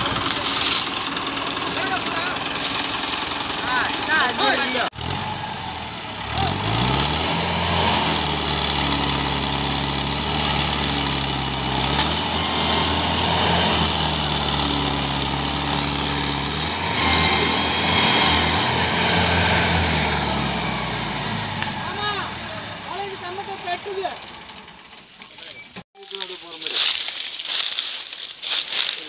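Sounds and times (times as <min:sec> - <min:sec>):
tractor diesel engine revving: 0:00.0 - 0:25.9.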